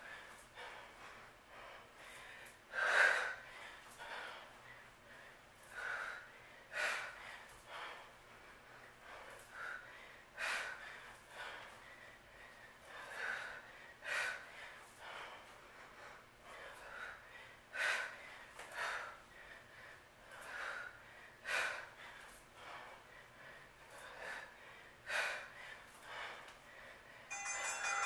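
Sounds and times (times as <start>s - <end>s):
woman breathing heavily: 0.0s - 28.0s.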